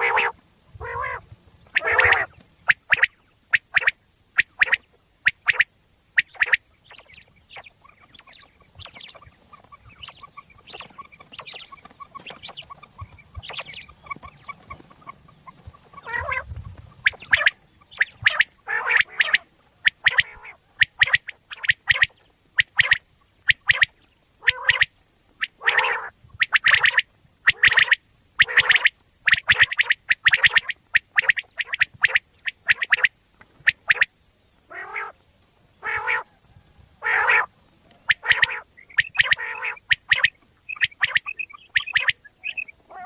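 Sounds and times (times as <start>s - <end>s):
quail calling: 0.0s - 43.0s.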